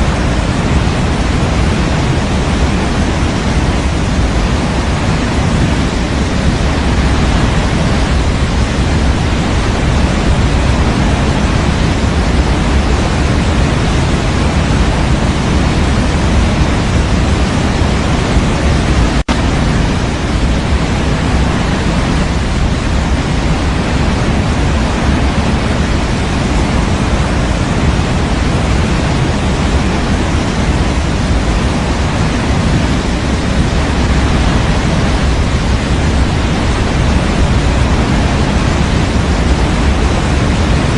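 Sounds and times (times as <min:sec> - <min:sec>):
electronic white noise: 0:00.0 - 0:40.9.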